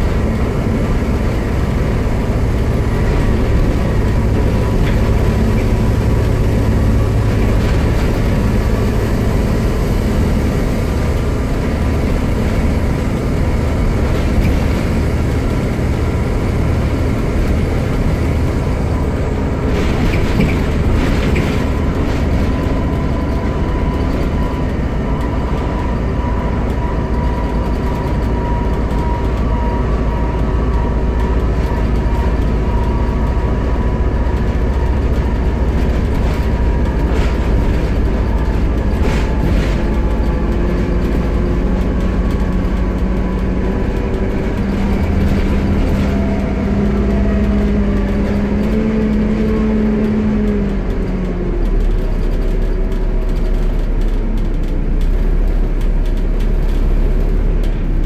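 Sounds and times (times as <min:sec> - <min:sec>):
bus diesel engine whine: 0:00.0 - 0:58.0.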